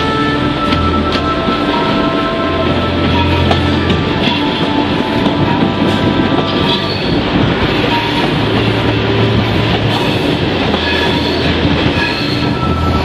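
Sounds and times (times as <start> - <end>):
high wheel squeals: 0.0 - 13.0
train wheels rattling on track: 0.0 - 13.0.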